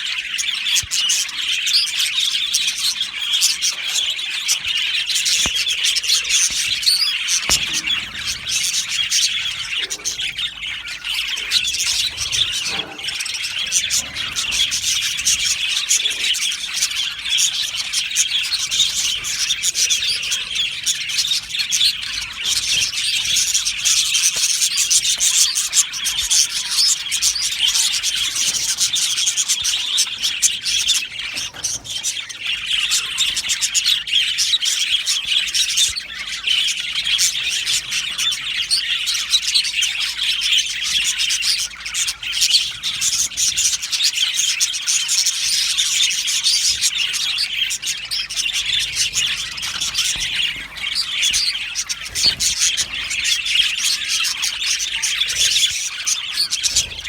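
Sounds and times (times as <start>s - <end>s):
budgerigars chattering and chirping: 0.0s - 57.0s.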